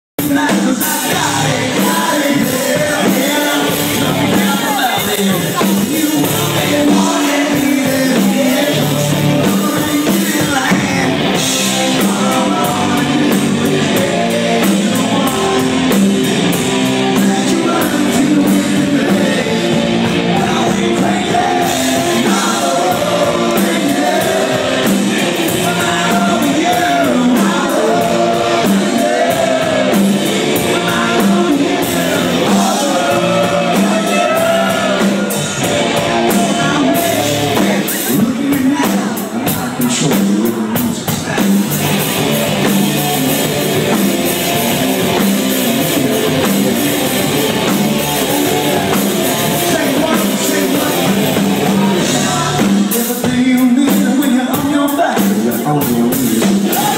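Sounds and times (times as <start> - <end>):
rock band with singer: 0.2 - 56.9.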